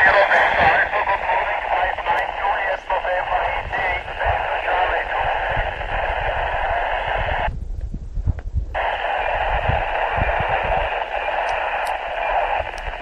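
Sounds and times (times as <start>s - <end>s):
radio receiver hiss: 0.0s - 7.5s, 8.8s - 13.0s
wind rumbling on microphone: 0.0s - 13.0s.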